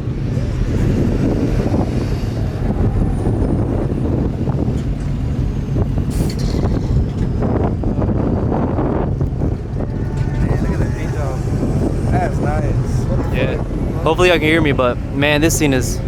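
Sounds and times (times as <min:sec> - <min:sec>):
vehicle engine: 0:00.0 - 0:16.0
wind buffeting microphone: 0:00.0 - 0:16.0.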